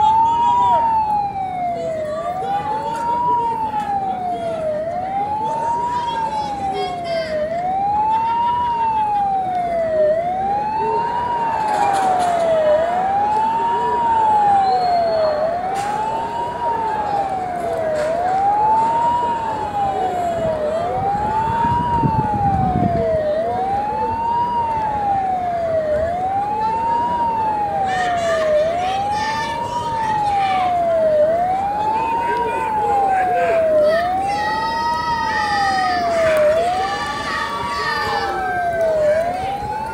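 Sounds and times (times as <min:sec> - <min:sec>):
crowd murmur: 0:00.0 - 0:39.9
siren wailing: 0:00.0 - 0:39.9.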